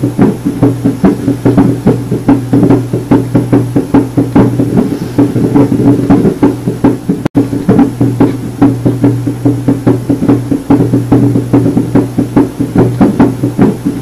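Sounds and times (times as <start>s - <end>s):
puppy heartbeat through stethoscope: 0.0s - 14.0s
steady low hum: 0.0s - 14.0s.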